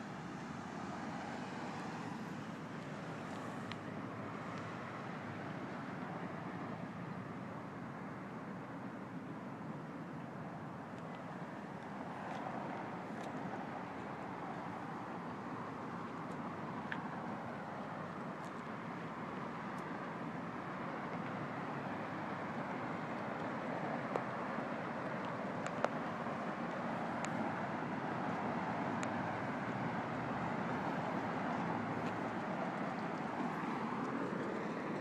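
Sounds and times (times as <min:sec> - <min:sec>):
traffic hum: 0:00.0 - 0:35.0.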